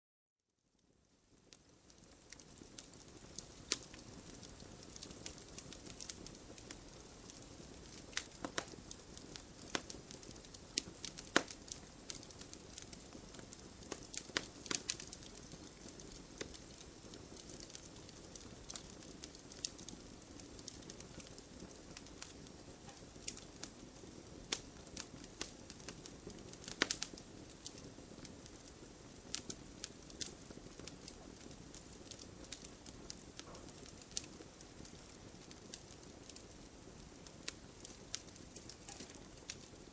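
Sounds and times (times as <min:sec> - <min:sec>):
wood fire crackling and popping: 0:00.8 - 0:39.9
rain patter: 0:01.1 - 0:39.9.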